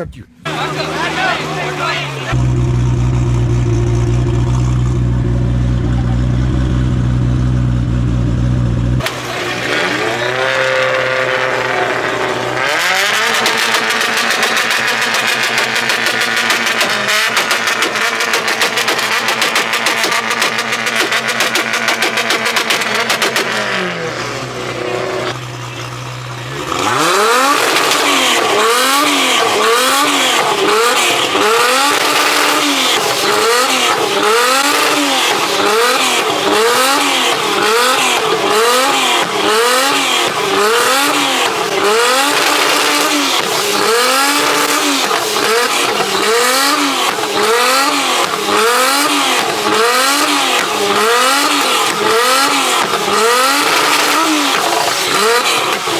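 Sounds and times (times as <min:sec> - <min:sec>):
car engine revving: 0:00.4 - 0:55.9.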